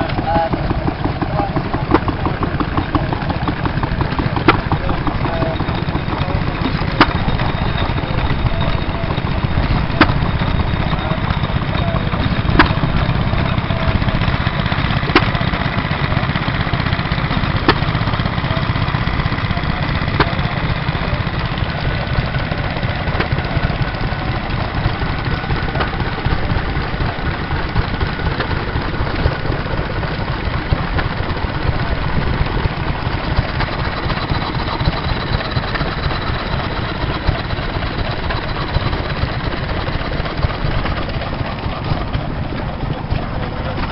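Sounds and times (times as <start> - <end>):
sharp engine knock: 0.0 - 43.9
stationary engines running: 0.0 - 43.9.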